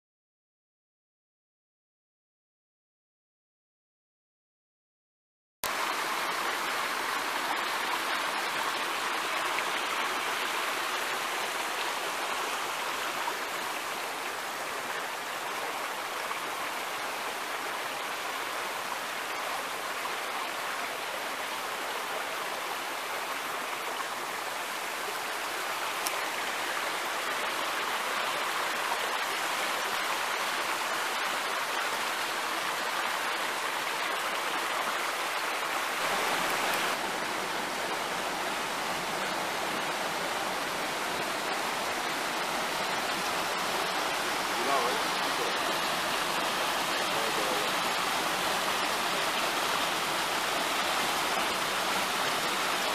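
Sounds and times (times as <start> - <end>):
stream water running over stones: 5.6 - 52.9.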